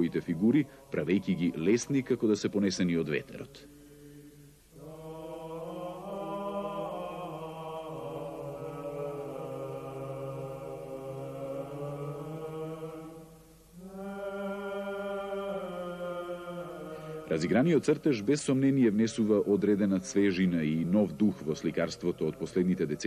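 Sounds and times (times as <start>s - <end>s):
low voices chanting: 2.9s - 23.0s.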